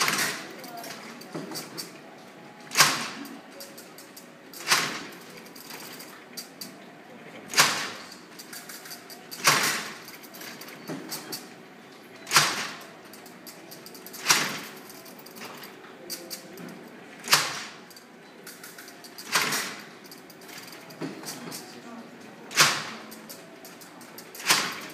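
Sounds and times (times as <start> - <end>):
mechanism clicks and rattling: 0.0 - 11.5, 12.2 - 24.9.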